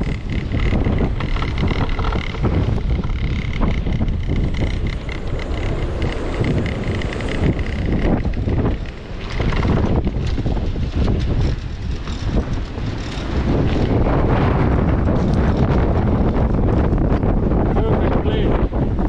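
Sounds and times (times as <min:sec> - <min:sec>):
gusting wind on microphone: 0:00.0 - 0:19.0.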